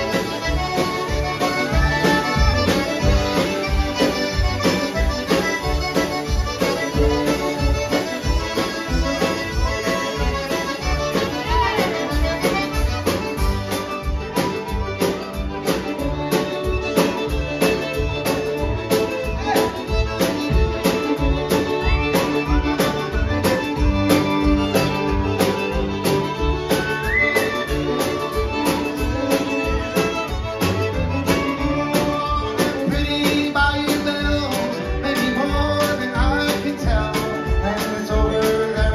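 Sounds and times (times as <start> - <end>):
accordion: 0.0 - 38.9
drums keeping a steady beat: 0.0 - 38.9
fiddles: 0.0 - 38.9
guitar: 0.0 - 38.9
upright bass: 0.0 - 38.9.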